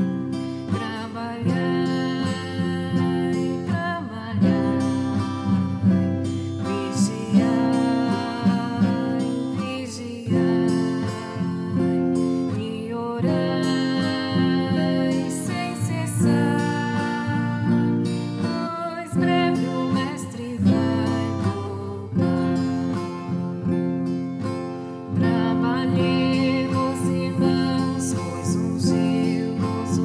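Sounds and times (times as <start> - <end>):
acoustic guitar: 0.0 - 30.0.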